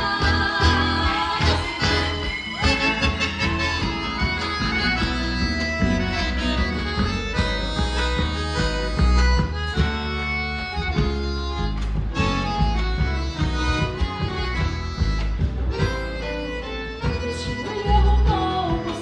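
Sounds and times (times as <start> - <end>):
acoustic guitars: 0.0 - 19.0
bass line: 0.0 - 19.0
piano accordion melody: 0.0 - 19.0.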